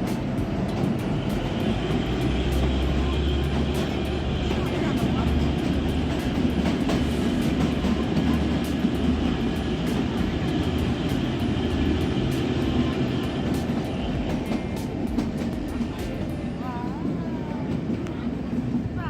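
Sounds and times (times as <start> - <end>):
train rumbling in tunnel: 0.0 - 19.0.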